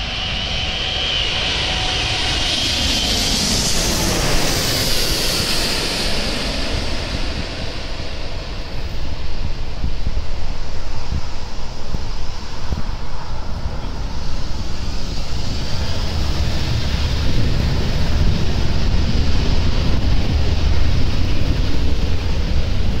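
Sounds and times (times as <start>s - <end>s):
jet engine roar: 0.0s - 23.0s
wind buffeting microphone: 0.0s - 23.0s.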